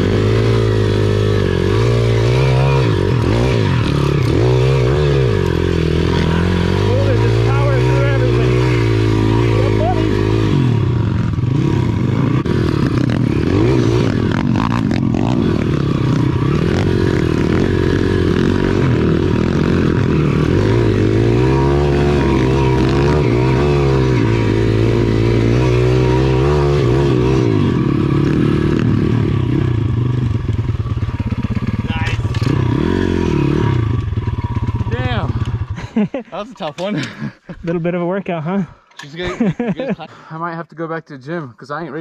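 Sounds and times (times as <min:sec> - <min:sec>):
small motorbike engine revving: 0:00.0 - 0:36.0.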